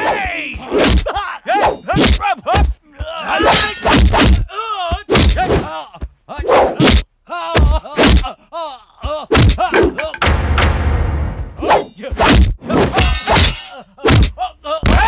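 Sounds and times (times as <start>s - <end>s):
punch and stick hits: 0.0s - 5.7s, 6.6s - 8.3s, 9.3s - 15.0s
men shouting and grunting: 0.0s - 10.2s, 11.6s - 15.0s.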